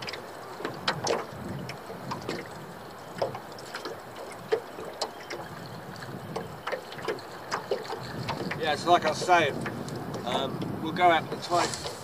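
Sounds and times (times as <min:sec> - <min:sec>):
low wash of water: 0:00.0 - 0:12.0
waves slapping hull: 0:00.0 - 0:12.0.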